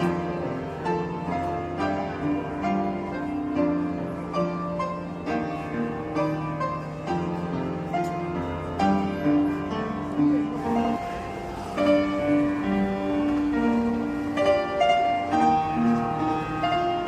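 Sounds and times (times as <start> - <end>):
gentle piano and strings music: 0.0 - 17.0.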